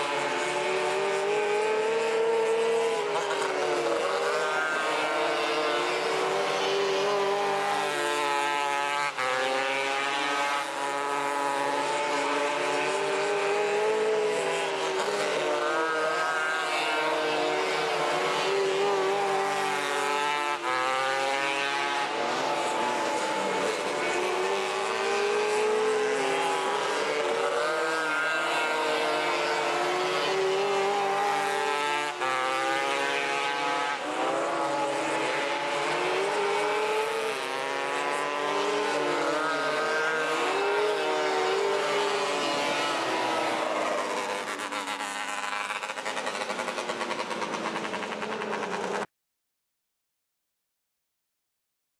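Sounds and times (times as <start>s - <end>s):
racing car engines revving: 0.0s - 49.1s.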